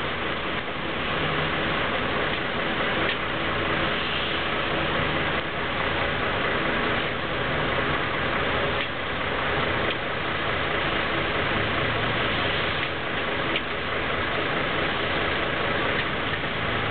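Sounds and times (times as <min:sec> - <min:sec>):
rain hissing on a wet street: 0:00.0 - 0:16.9
traffic engines humming: 0:00.0 - 0:16.9.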